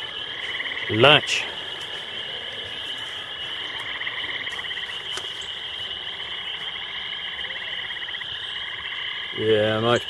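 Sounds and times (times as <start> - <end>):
chorus of calling animals: 0.0 - 10.0.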